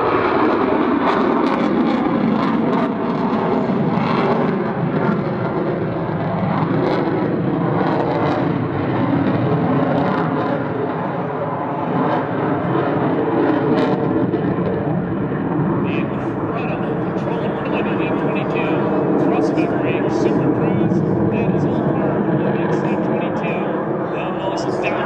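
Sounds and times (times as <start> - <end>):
loud jet rumble: 0.0 - 25.0.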